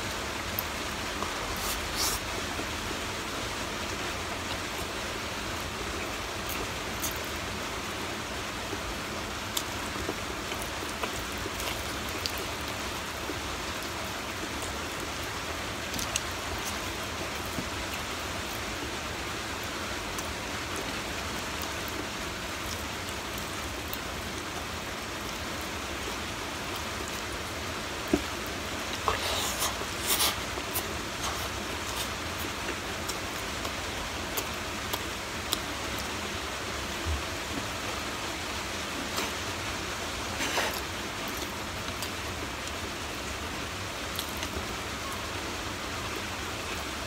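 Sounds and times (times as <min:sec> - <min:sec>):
background hiss: 0:00.0 - 0:47.0.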